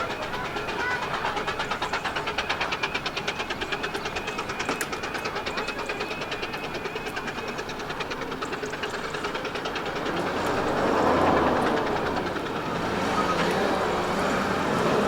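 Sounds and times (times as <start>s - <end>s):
train rushing past: 0.0s - 15.0s
train wheels clicking: 0.0s - 15.0s.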